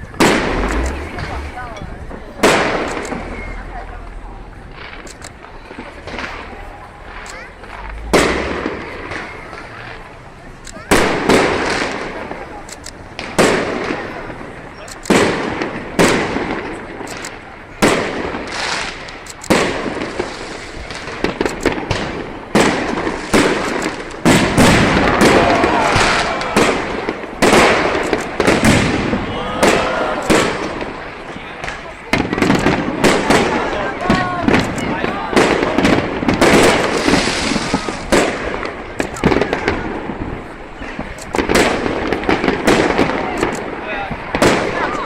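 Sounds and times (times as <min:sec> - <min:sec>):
fireworks booming: 0:00.0 - 0:45.0
fireworks popping and crackling: 0:00.0 - 0:45.0.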